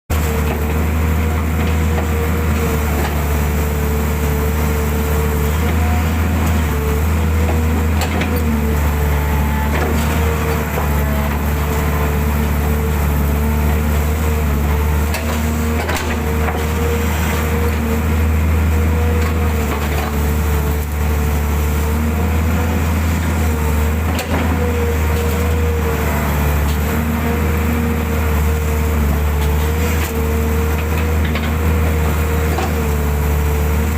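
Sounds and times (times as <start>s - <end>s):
excavator engine drone: 0.1s - 33.9s.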